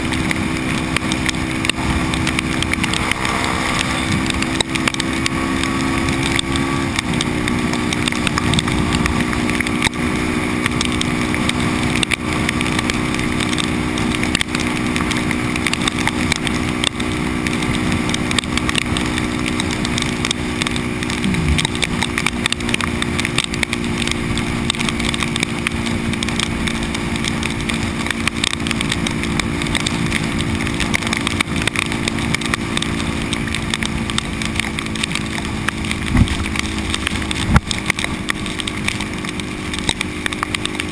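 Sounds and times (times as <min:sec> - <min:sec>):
motorcycle engine cruising: 0:00.0 - 0:40.9
rain on microphone: 0:00.0 - 0:40.9
wind on microphone: 0:00.0 - 0:40.9.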